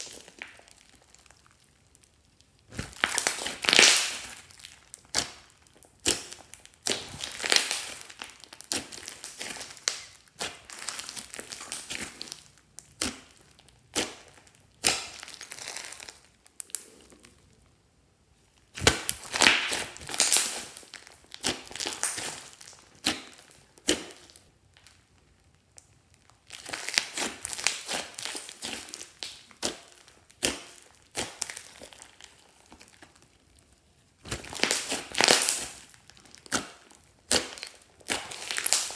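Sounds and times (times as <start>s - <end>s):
hands kneading slime: 0.0s - 17.6s, 18.4s - 38.9s.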